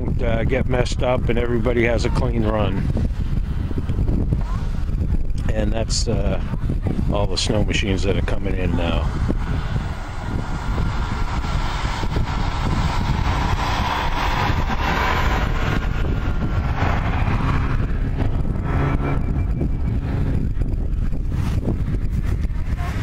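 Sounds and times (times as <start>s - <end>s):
wind noise on microphone: 0.0s - 23.0s
distant snowmobile engine: 0.1s - 23.0s.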